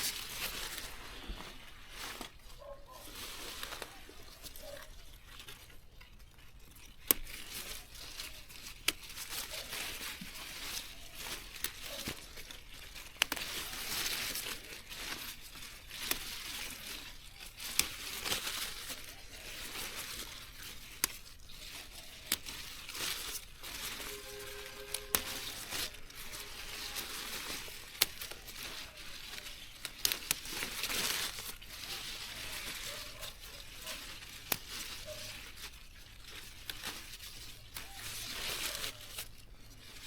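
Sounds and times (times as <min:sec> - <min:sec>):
rustling and crinkling: 0:00.0 - 0:40.0.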